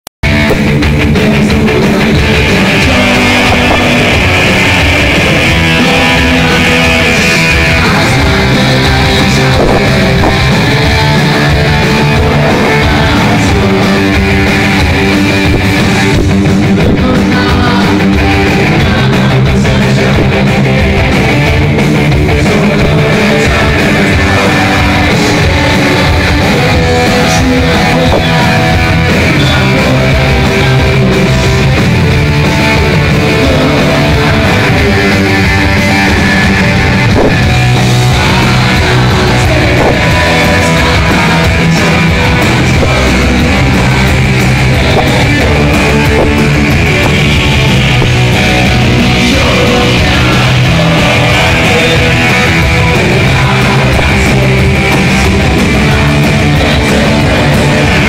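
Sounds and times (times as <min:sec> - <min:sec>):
punk rock band playing live: 0:00.2 - 0:58.0.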